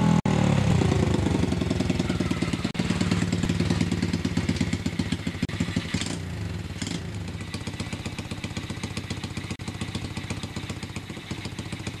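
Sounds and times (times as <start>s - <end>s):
mini bike engine idling: 0.0s - 12.0s.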